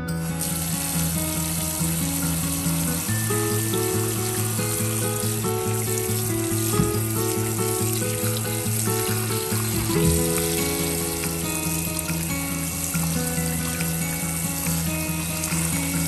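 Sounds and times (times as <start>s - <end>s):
light background music: 0.0s - 16.0s
tap water running into bowl: 0.4s - 16.0s.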